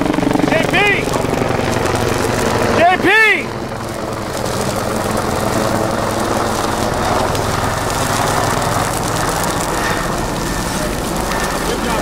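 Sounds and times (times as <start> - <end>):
brush fire crackling: 0.0 - 12.0
low engine drone: 0.0 - 12.0.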